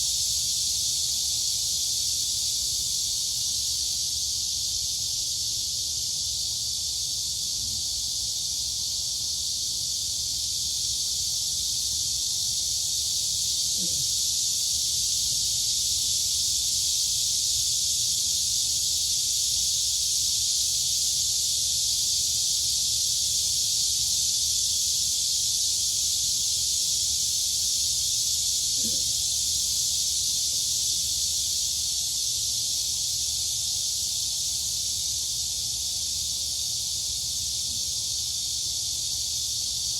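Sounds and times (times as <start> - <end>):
crickets and cicadas chirring: 0.0 - 39.9.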